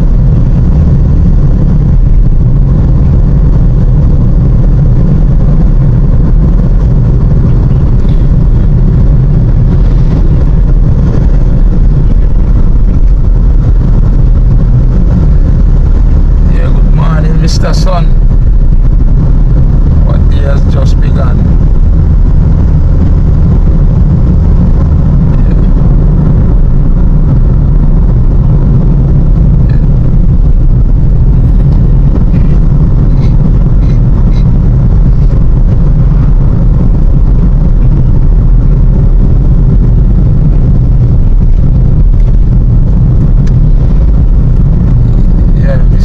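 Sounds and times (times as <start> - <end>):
road and wind noise: 0.0 - 46.0
road vehicle rumble: 0.0 - 46.0.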